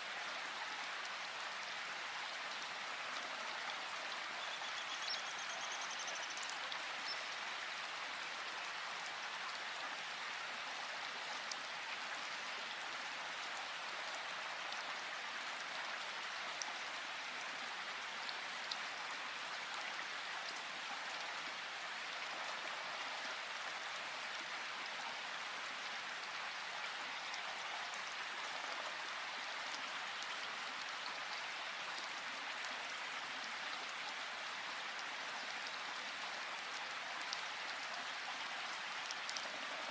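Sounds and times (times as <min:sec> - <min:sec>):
rushing water: 0:00.0 - 0:39.9
faint drip-like ticks: 0:00.1 - 0:39.9.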